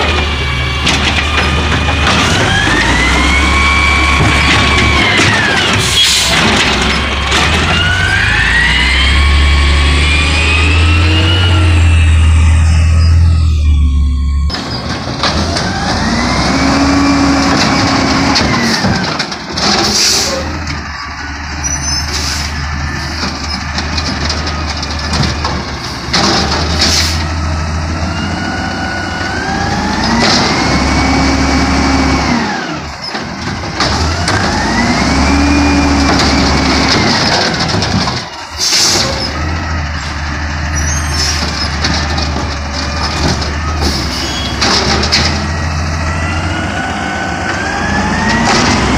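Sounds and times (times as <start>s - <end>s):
bangs from hydraulic arm and carts: 0.0s - 3.4s, 4.1s - 9.1s, 14.5s - 20.9s, 22.0s - 46.5s, 47.5s - 48.9s
garbage truck diesel engine revving: 0.0s - 48.9s.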